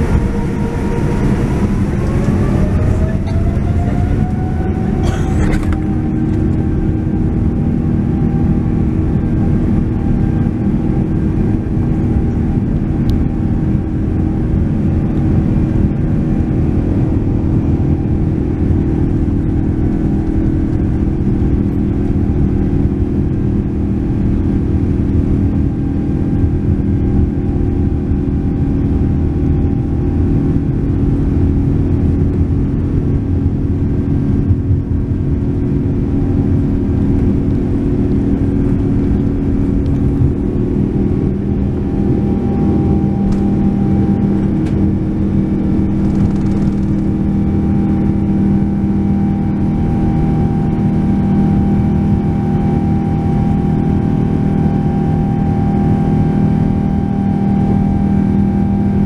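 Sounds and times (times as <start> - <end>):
jet engine whine: 0.0 - 59.0
jet engines drone: 0.0 - 59.0.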